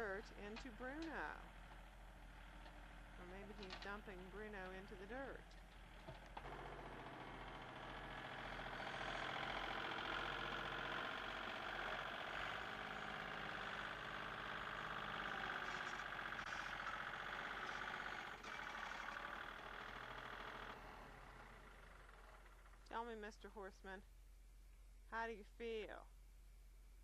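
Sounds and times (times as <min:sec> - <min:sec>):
tractor engine running: 0:00.0 - 0:23.1.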